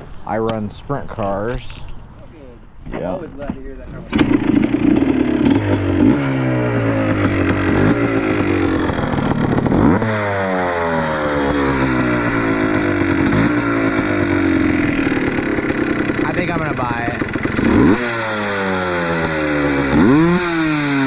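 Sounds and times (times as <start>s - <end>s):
two-stroke engine revving: 4.1s - 21.0s.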